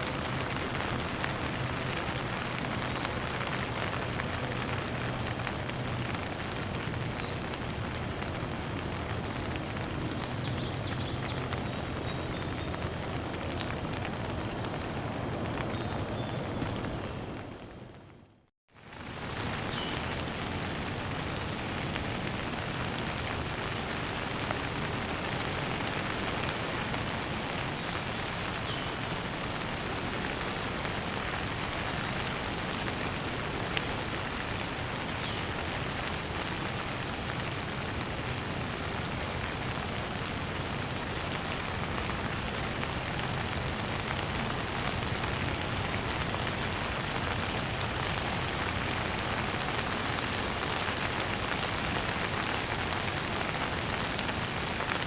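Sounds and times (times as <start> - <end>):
gentle rain pattering: 0.0 - 55.0.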